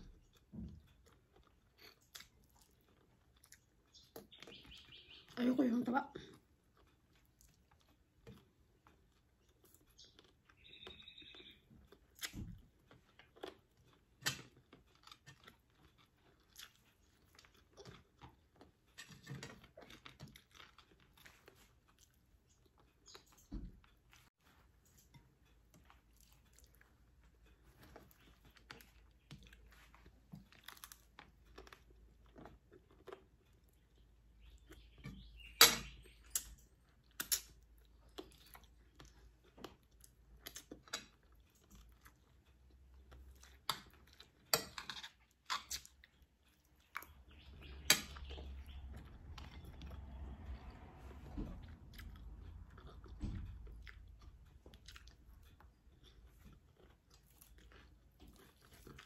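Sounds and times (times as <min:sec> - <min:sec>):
person chewing food: 0:00.0 - 0:05.4, 0:06.2 - 0:59.0.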